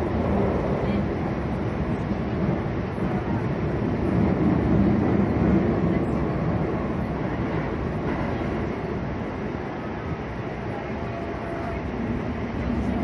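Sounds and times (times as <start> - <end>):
subway car rumbling: 0.0 - 13.0.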